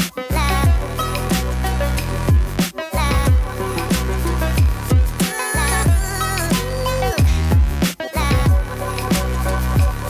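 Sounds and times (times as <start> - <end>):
background music with beat: 0.0 - 10.0
sliding deep bass notes: 0.3 - 10.0.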